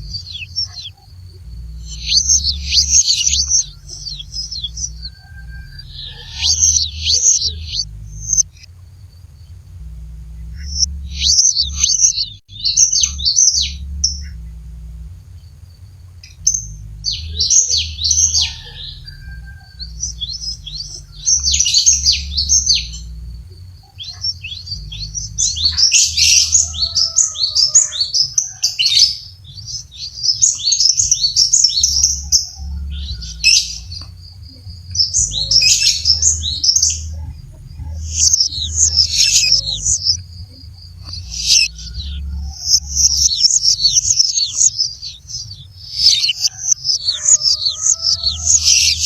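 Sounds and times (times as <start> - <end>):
tit chattering song: 0.0 - 28.4, 29.0 - 49.0
low steady hum: 0.0 - 49.0.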